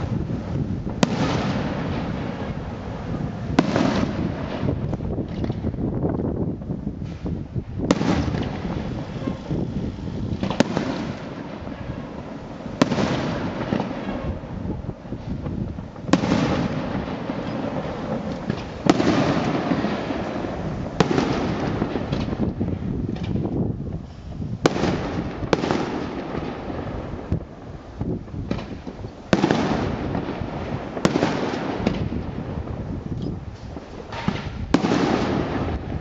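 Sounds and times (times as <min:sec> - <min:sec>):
firework shells bursting: 0:07.0 - 0:36.0.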